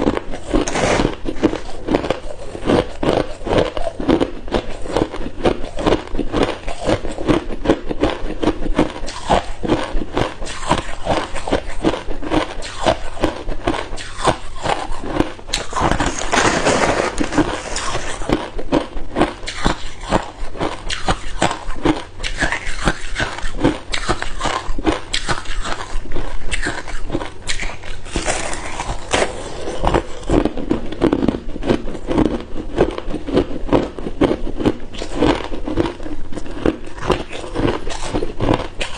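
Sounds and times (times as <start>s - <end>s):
ice cubes being chewed: 0.0s - 38.9s.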